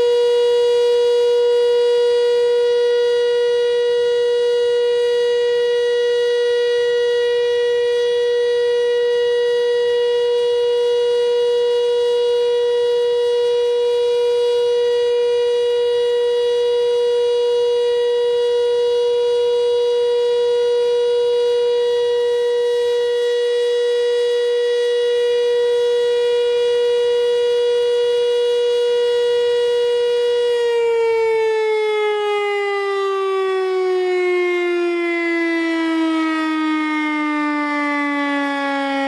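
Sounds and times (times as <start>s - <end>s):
motor-driven alarm siren: 0.0s - 39.0s.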